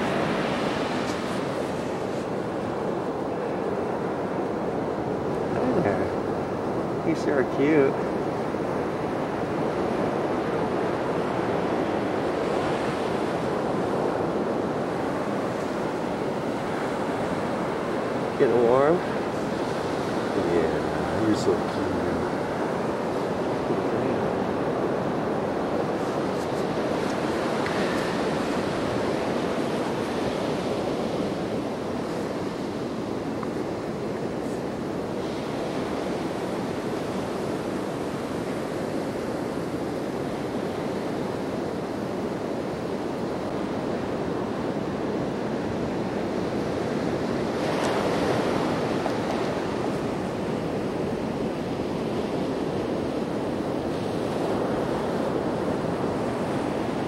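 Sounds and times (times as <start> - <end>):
water rushing at shoreline: 0.0 - 57.0.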